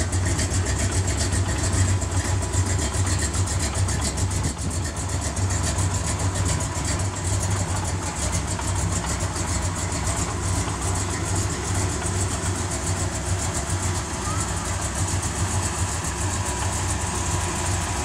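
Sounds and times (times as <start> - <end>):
car engine near idle: 0.0 - 18.0.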